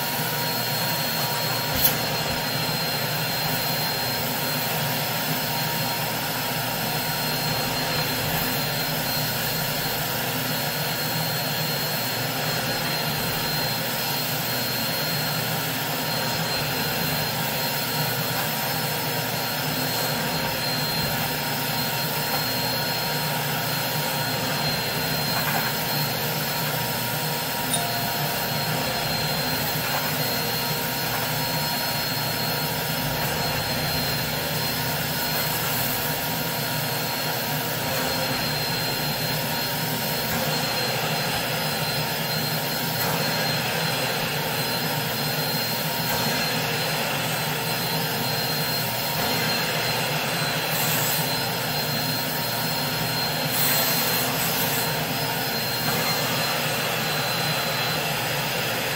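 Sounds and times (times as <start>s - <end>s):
carpet extractor sucking water: 0.0s - 58.9s.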